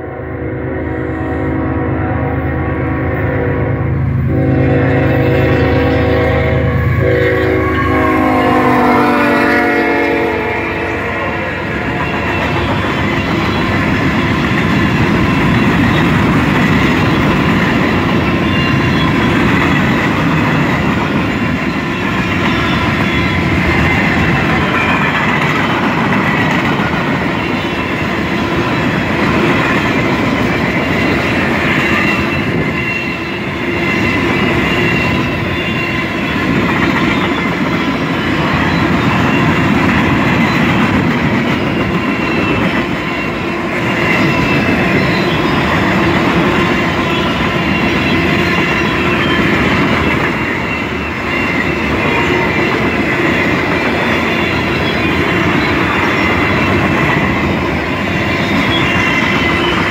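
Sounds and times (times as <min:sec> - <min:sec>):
steel wheels running on rails: 0:03.8 - 0:59.9.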